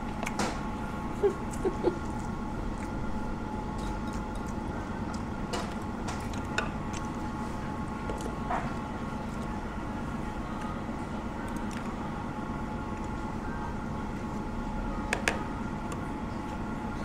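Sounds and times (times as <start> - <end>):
conveyor belt machinery hum: 0.0 - 17.0.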